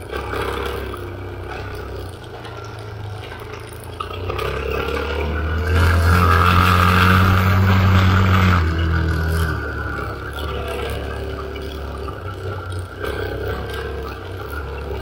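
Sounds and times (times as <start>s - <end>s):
tyre and road noise: 0.0s - 15.0s
vehicle engine running: 0.0s - 15.0s.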